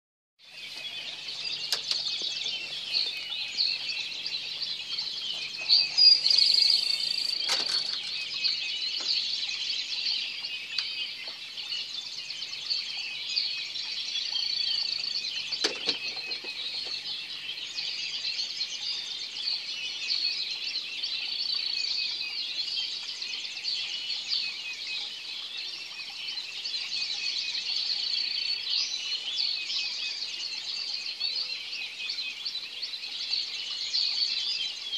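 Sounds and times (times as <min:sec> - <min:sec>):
birds chirping in chorus: 0:00.4 - 0:34.9.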